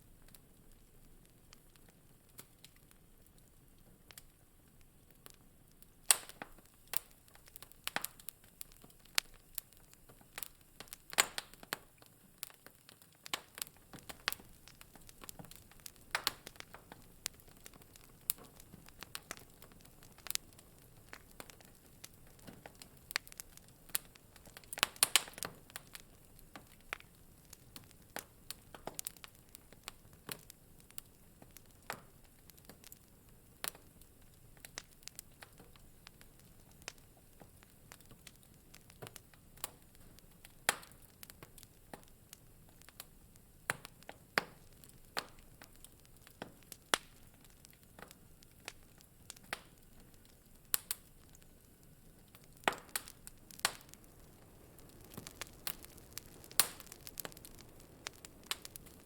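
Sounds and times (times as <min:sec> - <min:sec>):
faint hiss of fire: 0:00.0 - 0:59.0
wood fire crackling: 0:00.0 - 0:59.0.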